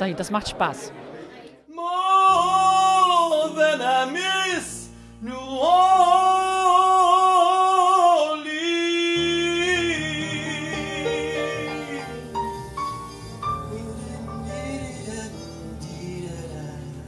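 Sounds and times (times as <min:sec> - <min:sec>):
man singing with vibrato: 0:01.7 - 0:17.0
accompanying music: 0:01.8 - 0:17.0.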